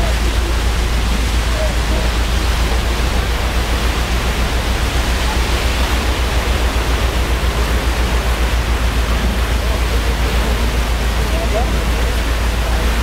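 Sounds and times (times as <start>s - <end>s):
boat engine running: 0.0s - 13.0s
propeller wash churning water: 0.0s - 13.0s.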